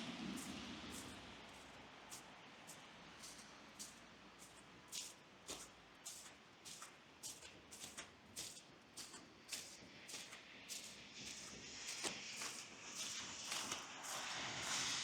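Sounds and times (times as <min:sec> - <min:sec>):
footsteps crunching in snow: 0:00.3 - 0:15.0.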